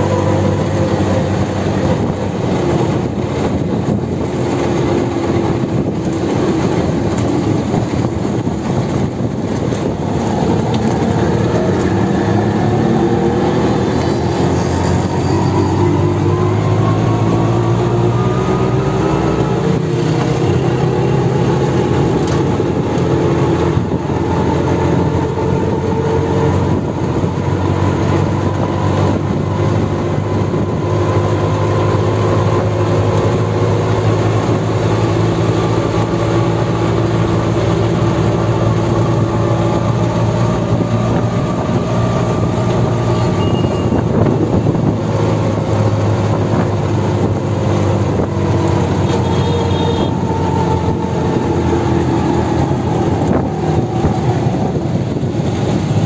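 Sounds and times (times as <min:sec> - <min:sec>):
rickshaw engine running: 0:00.0 - 0:56.0
road noise: 0:00.0 - 0:56.0.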